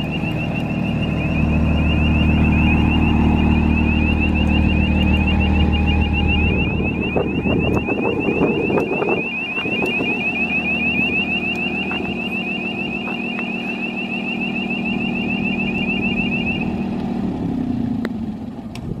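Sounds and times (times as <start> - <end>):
high chirping warning alarm: 0.0 - 17.0
diesel engine running: 0.0 - 19.0.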